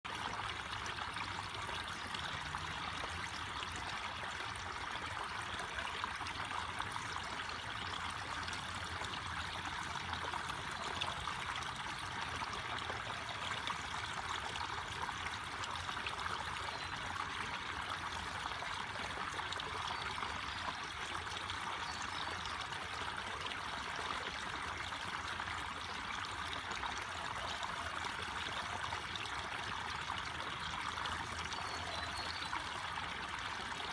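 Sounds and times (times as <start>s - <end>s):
forest stream trickling: 0.0s - 33.9s.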